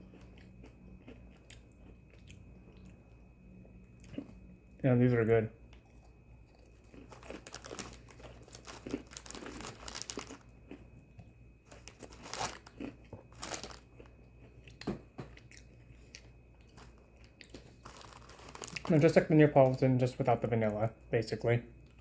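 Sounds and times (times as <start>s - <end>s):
person chewing crunchy cookies: 0.0s - 4.8s, 5.6s - 19.9s.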